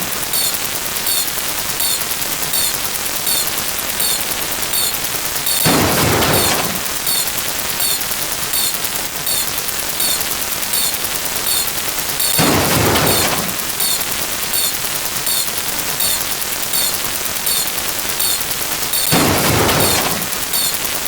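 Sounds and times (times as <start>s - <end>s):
loud noisy bursts: 0.0s - 20.9s
rapid clatter of clicks: 0.0s - 21.0s.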